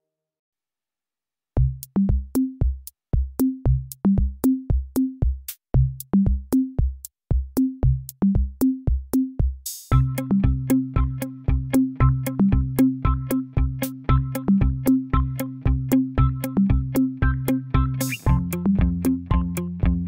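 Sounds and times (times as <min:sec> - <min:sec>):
music with deep bass beat: 0:01.6 - 0:20.0.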